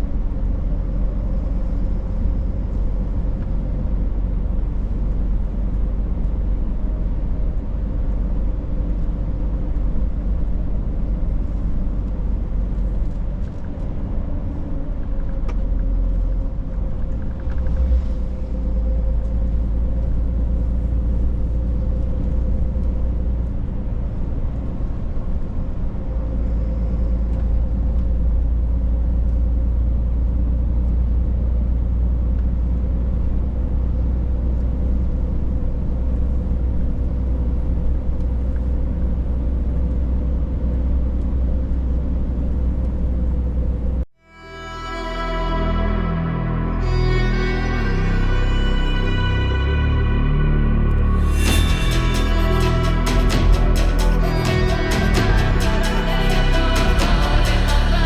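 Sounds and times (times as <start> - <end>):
truck engine and road rumble: 0.0 - 58.0.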